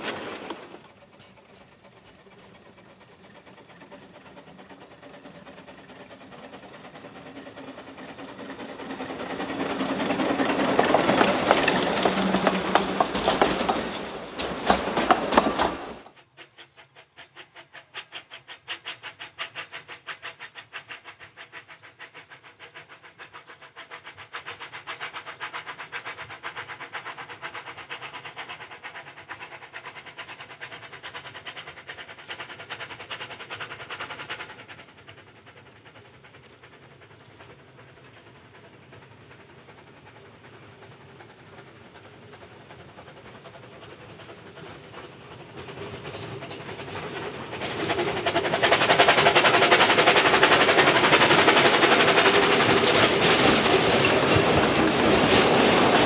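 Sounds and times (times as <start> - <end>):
steam locomotive exhaust: 0.0 - 56.0
train wheels clicking: 0.0 - 56.0.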